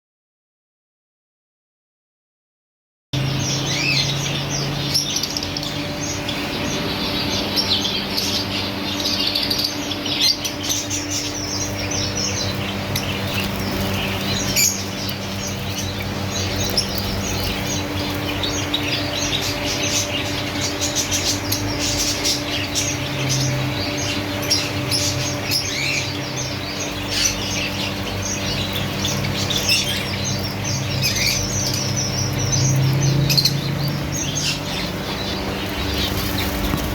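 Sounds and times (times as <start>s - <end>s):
finches and canaries chirping: 3.2s - 36.9s
steady low hum: 3.2s - 36.9s.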